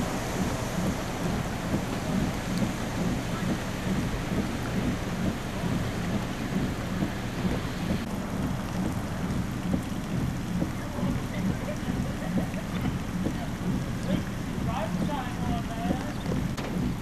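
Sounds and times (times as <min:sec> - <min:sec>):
continuous low rumble: 0:00.0 - 0:17.0
steady rain falling: 0:00.0 - 0:17.0.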